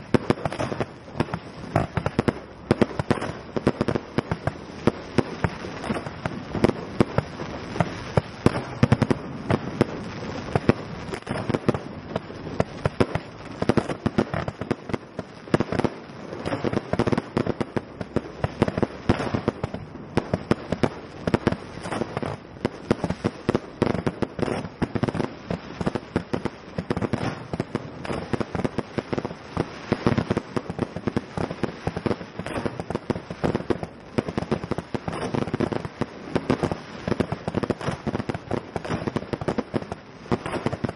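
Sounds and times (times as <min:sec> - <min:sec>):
fireworks exploding: 0:00.0 - 0:40.9.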